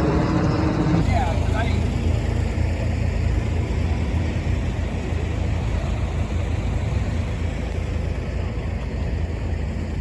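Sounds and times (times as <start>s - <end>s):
vehicle engine and road rumble: 0.0s - 10.0s.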